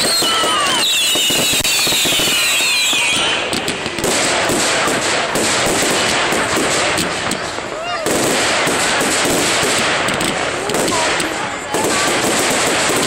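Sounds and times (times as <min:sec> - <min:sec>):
fireworks crackling and popping: 0:00.0 - 0:13.0
whistling fireworks: 0:00.0 - 0:13.0.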